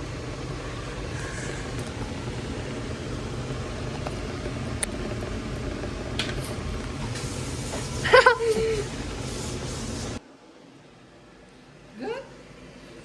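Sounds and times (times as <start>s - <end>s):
low rushing hum: 0.0s - 13.0s.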